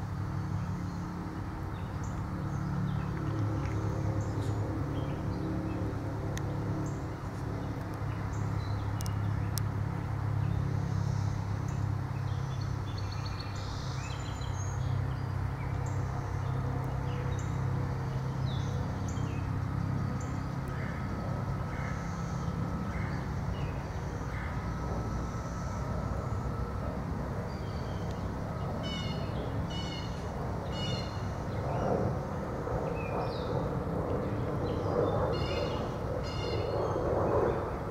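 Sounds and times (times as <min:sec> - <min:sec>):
distant traffic hum: 0:00.0 - 0:37.9
songbirds chirping: 0:00.3 - 0:37.7.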